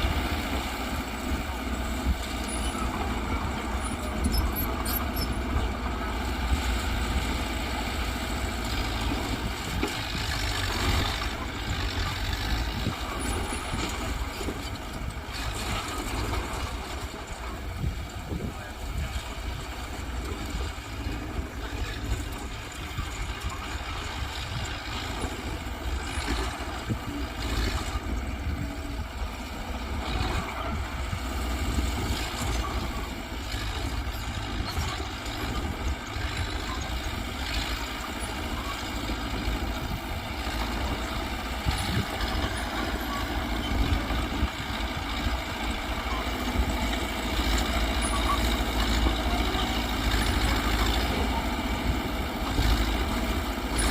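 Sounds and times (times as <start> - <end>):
bulldozer diesel engine rumbling: 0.0 - 53.9.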